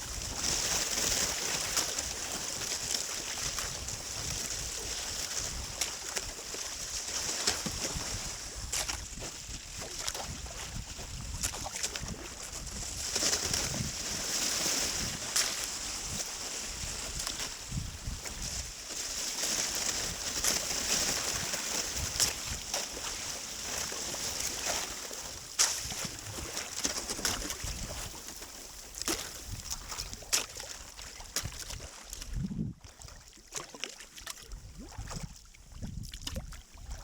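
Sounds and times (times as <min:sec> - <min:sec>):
water splashing against hull: 0:00.0 - 0:37.0.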